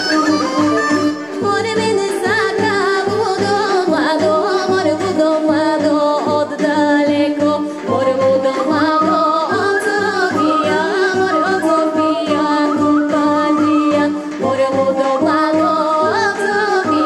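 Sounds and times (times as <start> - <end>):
amplified instrumental accompaniment: 0.0 - 17.0
woman singing folk song: 1.3 - 17.0.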